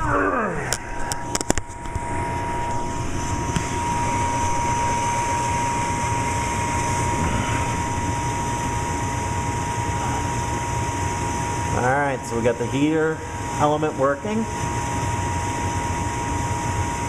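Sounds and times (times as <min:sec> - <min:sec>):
furnace fan motor whining: 0:00.0 - 0:17.0.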